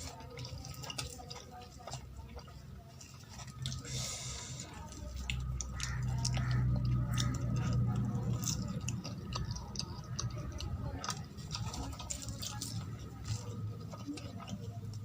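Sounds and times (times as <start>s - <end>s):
low steady hum: 0.0s - 15.0s
wet chewing: 0.0s - 15.0s.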